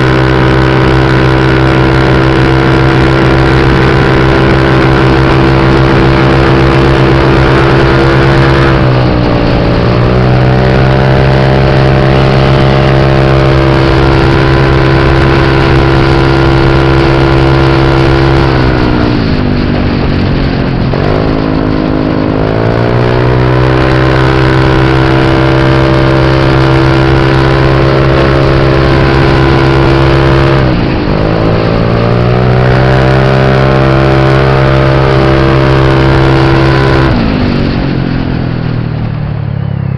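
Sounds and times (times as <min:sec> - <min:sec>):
scooter engine running hard: 0:00.0 - 0:39.9.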